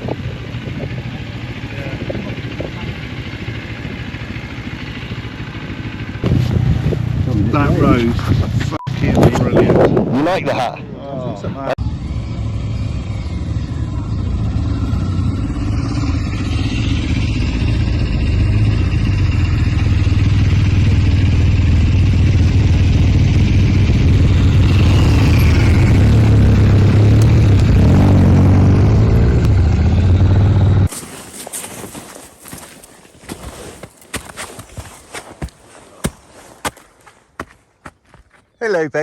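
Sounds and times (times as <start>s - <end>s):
motorcycle engine running: 0.0s - 9.6s, 11.8s - 31.0s, 32.0s - 38.2s.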